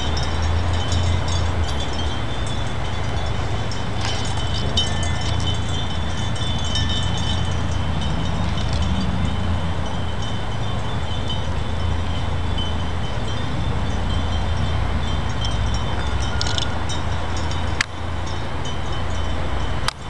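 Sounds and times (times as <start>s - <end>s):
low steady rumble: 0.0s - 20.0s
wind chime tubes ringing: 0.0s - 20.0s.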